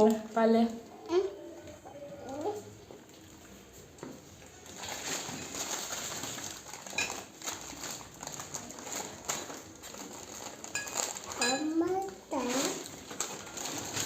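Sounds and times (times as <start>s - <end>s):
groceries rustling and knocking: 1.6s - 14.0s.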